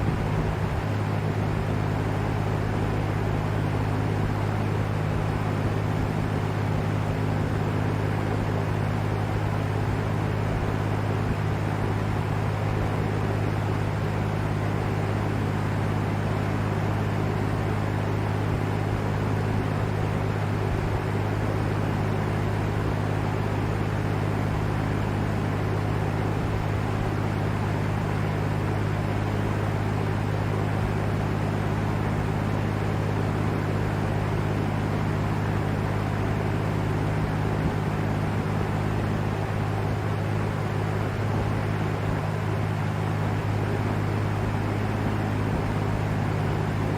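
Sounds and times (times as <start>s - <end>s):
box fan running: 0.0s - 46.9s.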